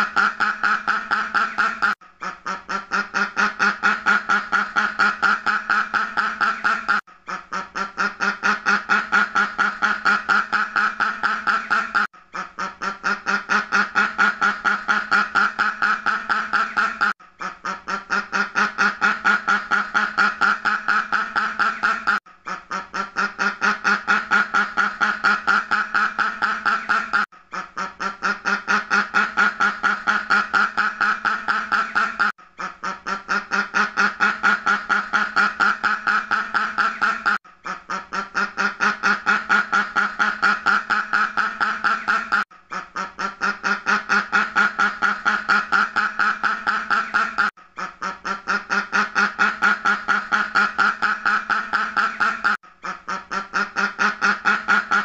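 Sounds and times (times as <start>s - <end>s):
duck quacking: 0.0s - 55.0s.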